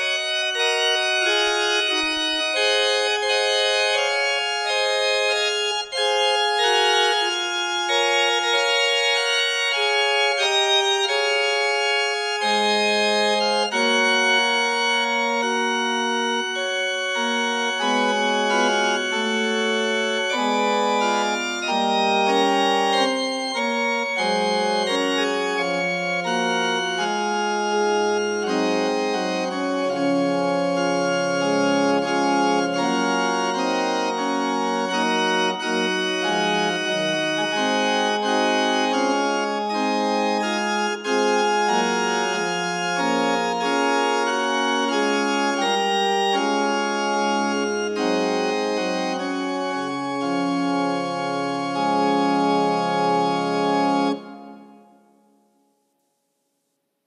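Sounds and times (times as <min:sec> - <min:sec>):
organ bass part: 0:00.0 - 0:55.0
organ playing slow chords: 0:00.0 - 0:55.7.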